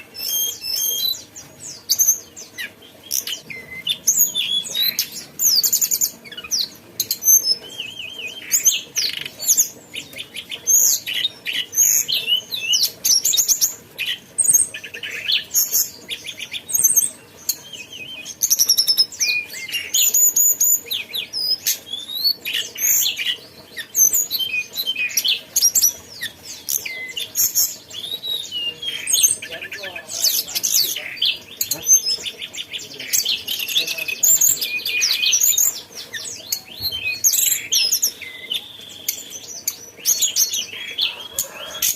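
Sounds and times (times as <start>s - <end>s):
songbird singing chattering song: 0.0s - 41.9s.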